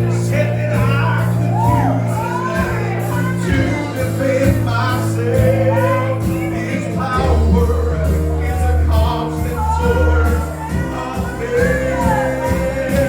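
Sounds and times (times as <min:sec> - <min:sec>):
held bass notes: 0:00.0 - 0:13.0
live gospel band: 0:00.0 - 0:13.0
voices singing: 0:00.0 - 0:13.0.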